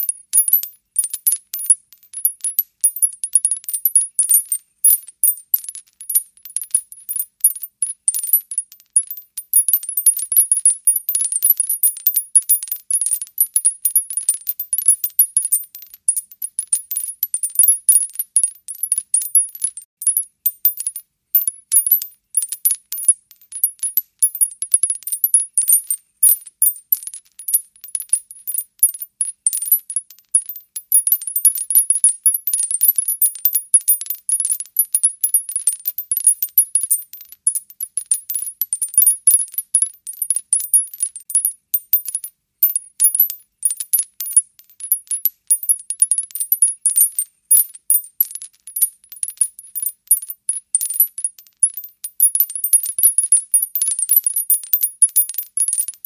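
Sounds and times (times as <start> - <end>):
shell casings clinking on concrete: 0.0 - 56.0.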